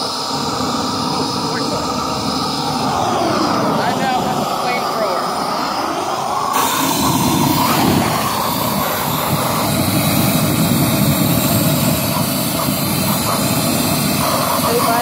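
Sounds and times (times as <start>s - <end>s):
propane torch flame rushing: 0.0s - 15.0s.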